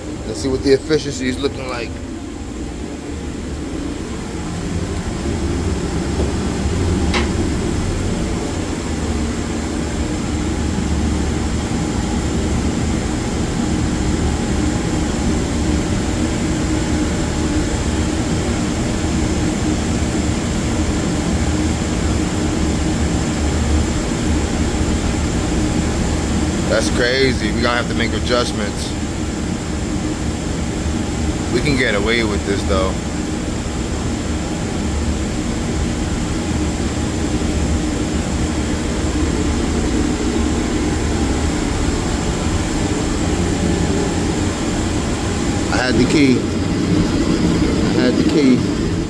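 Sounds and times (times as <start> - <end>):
boiler burner rumbling: 0.0 - 49.0.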